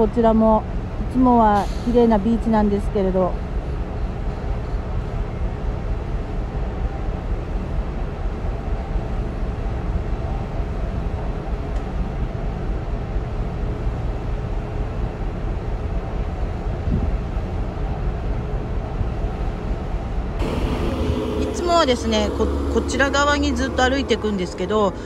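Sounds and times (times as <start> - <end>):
faint machinery hum: 0.0 - 25.0
steady low rumble: 0.0 - 25.0.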